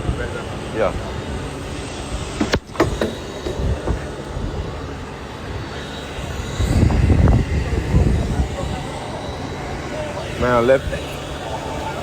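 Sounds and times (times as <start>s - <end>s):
machinery rumble and hiss: 0.0s - 12.0s.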